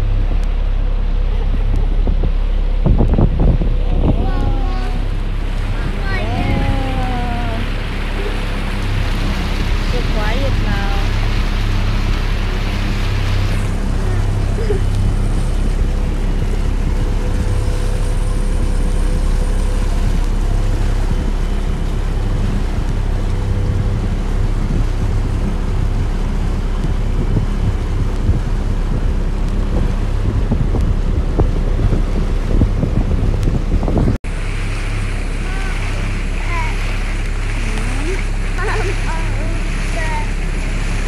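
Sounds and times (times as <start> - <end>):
boat motor running: 0.0 - 41.0
water noise: 0.0 - 41.0
wind buffeting microphone: 0.0 - 41.0.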